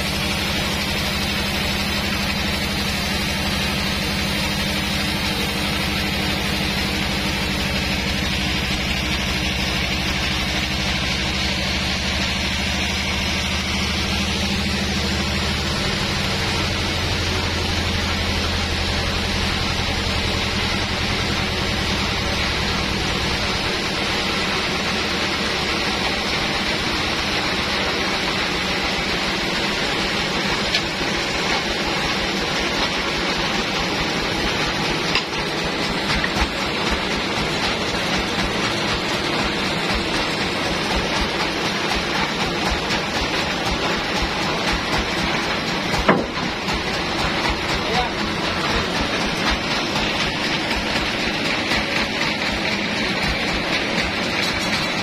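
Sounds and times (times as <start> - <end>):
band saw machine hum: 0.0 - 55.0.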